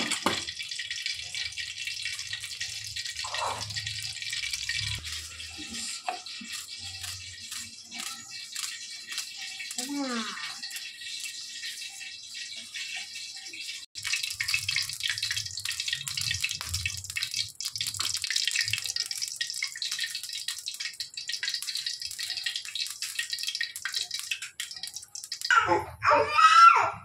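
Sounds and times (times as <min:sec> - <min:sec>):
oil sizzling and popping: 0:00.0 - 0:25.6.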